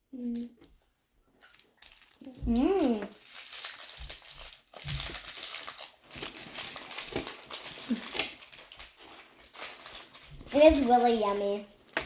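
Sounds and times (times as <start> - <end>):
plastic wrapper crinkling: 1.3 - 12.0.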